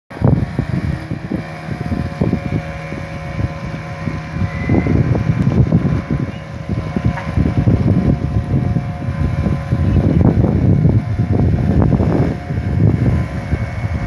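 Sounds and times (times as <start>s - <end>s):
outboard motor drone: 0.1s - 14.0s
wind buffeting microphone: 0.1s - 14.0s.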